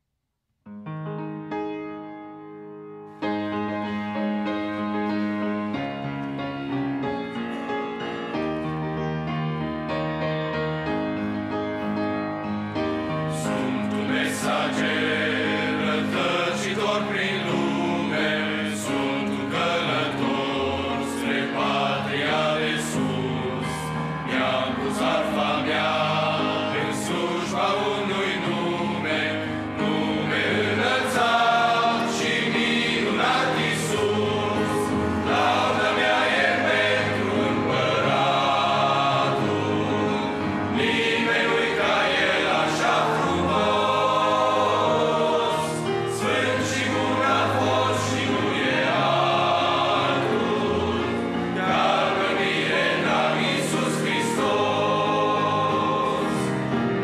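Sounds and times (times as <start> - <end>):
grand piano accompaniment: 0.6 - 57.0
men's choir singing a hymn: 10.9 - 57.0.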